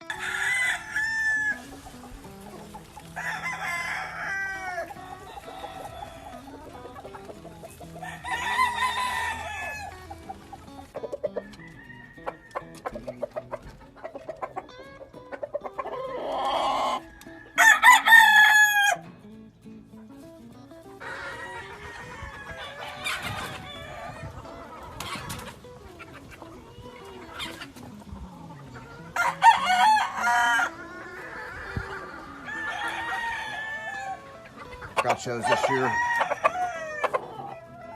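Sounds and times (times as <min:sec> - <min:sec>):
roosters crowing: 0:00.0 - 0:19.2, 0:20.9 - 0:37.9
chicken clucking: 0:00.0 - 0:37.9.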